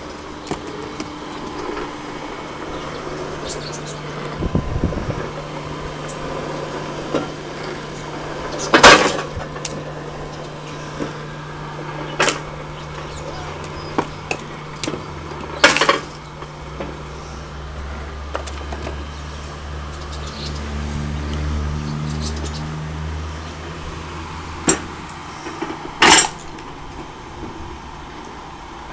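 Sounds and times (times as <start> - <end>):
electric motor humming: 0.0 - 28.9.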